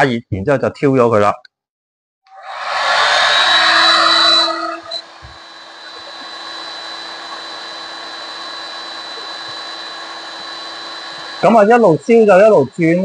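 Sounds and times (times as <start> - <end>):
thin high whine: 2.3 - 13.0
heat gun whirring: 2.4 - 13.0.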